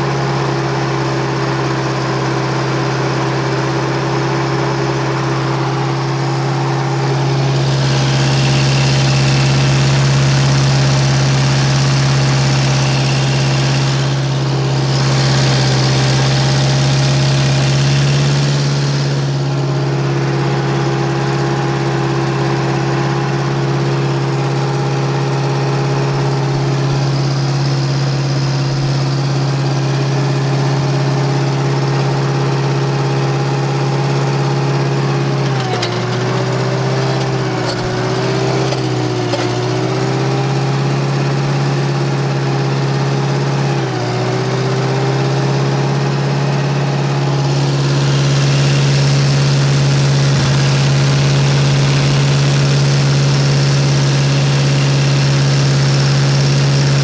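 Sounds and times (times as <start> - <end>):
skid steer engine running: 0.0 - 57.0.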